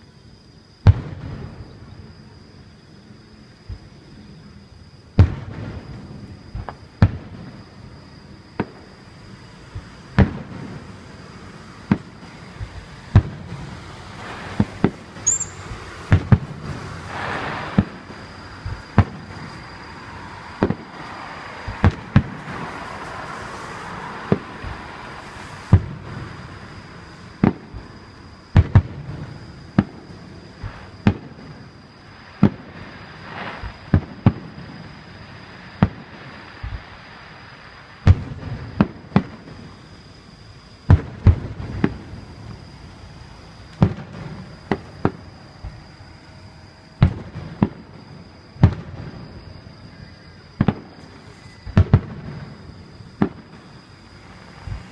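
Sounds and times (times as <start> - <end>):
fireworks booming: 0.8 - 2.1, 5.1 - 40.0, 40.8 - 54.9
fireworks hissing: 3.7 - 54.9.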